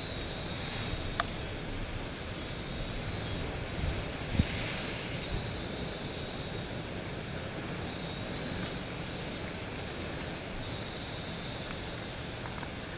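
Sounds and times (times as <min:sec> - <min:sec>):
heavy surf against breakwater: 0:00.0 - 0:12.9
wind: 0:00.0 - 0:12.9.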